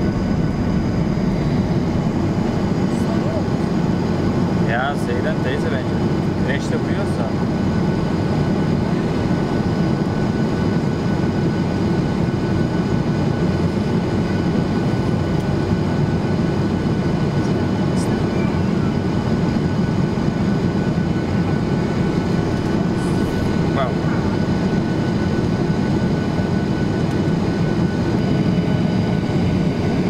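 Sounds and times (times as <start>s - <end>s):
air rushing along fuselage: 0.0s - 30.0s
aircraft engine rumble: 0.0s - 30.0s.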